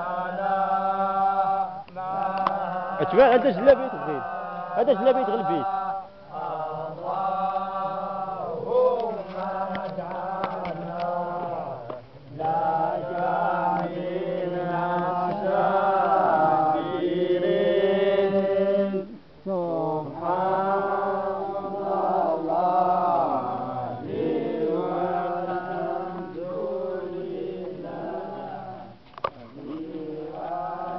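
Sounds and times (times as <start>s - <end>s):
men chanting in unison: 0.0s - 30.9s.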